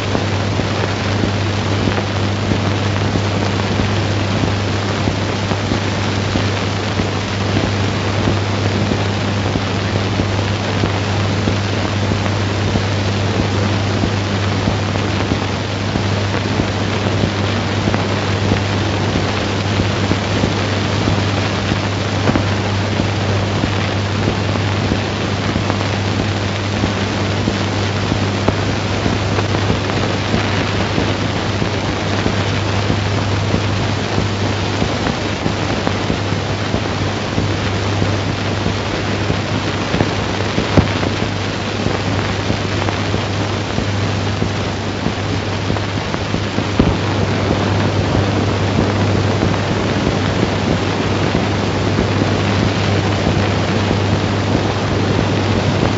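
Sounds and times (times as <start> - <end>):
constant low hum: 0.0 - 55.9
old film soundtrack hiss and crackle: 0.0 - 55.9.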